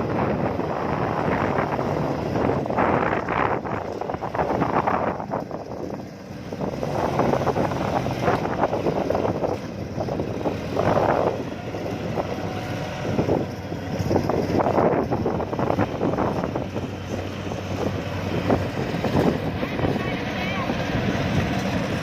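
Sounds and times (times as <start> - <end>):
diesel engine running: 0.0 - 22.0
wind buffeting microphone: 0.0 - 22.0.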